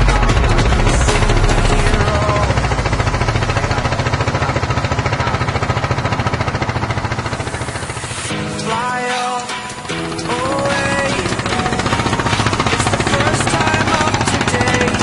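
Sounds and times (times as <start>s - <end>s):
boat engine knocking: 0.0s - 15.0s.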